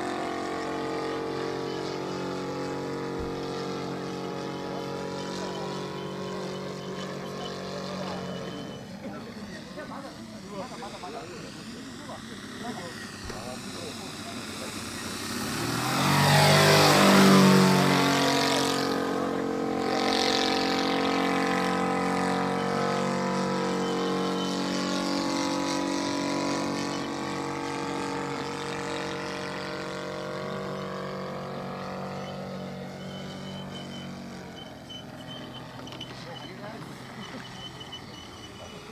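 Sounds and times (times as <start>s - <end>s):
model plane engine flying past: 0.0s - 38.9s.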